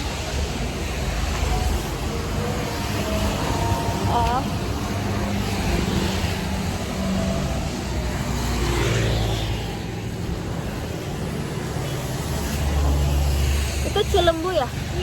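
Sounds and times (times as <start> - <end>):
car going by: 0.0 - 14.7
passing vehicles rushing: 0.0 - 15.0.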